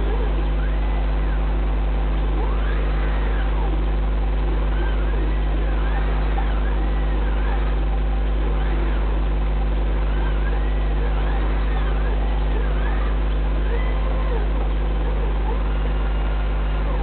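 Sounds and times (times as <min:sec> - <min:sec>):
steady low hum: 0:00.0 - 0:17.0
stepper motors whirring: 0:00.0 - 0:17.0.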